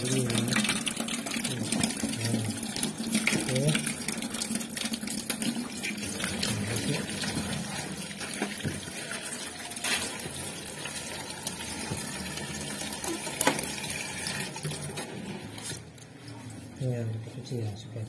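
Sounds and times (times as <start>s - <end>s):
hose water splashing: 0.0s - 16.8s.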